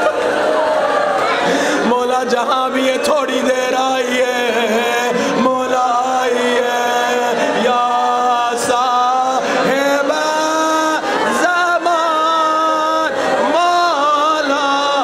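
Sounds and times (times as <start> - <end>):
man chanting a lament: 1.8 - 15.0.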